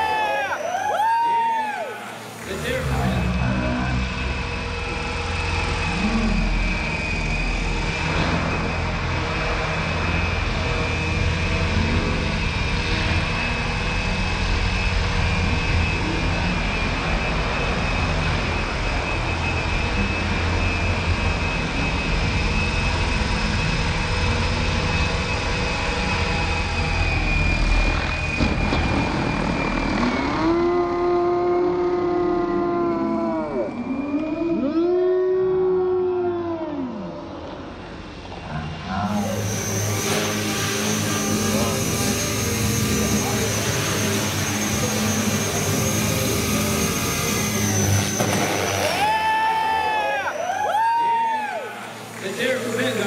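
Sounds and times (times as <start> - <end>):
rc helicopter motor whine: 0.0 - 35.1, 36.8 - 53.0.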